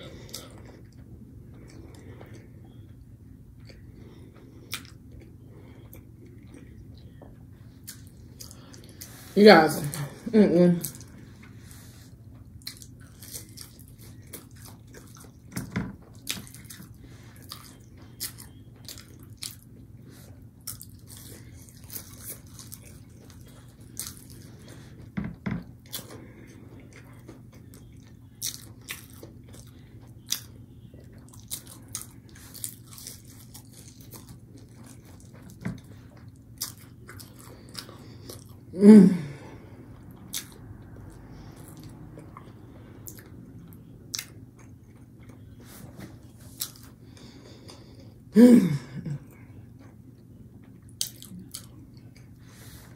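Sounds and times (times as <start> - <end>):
low steady hum: 0.0 - 52.9
crunchy food being chewed: 3.6 - 9.3, 10.8 - 38.7, 40.0 - 48.1, 49.6 - 52.8.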